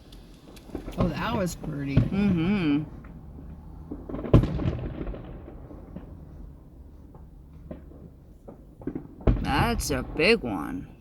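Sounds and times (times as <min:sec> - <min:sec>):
small firework pops: 0:00.0 - 0:10.0
rumble: 0:00.0 - 0:11.0
firework boom: 0:00.6 - 0:10.8.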